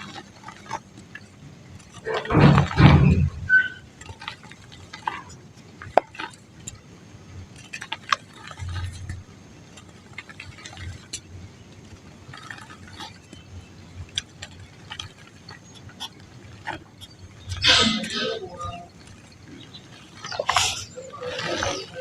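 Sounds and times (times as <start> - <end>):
dry mud crumbling: 0.0 - 22.0.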